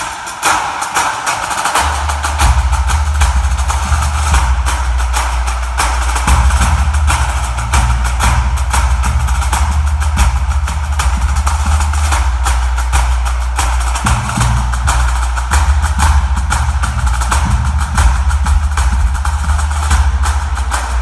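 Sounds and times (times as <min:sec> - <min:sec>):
percussive music with strong bass: 0:00.0 - 0:21.0.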